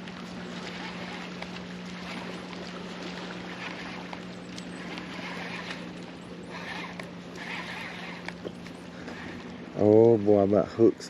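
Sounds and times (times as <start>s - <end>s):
boat motor humming: 0.0s - 11.0s
water noise: 0.0s - 11.0s.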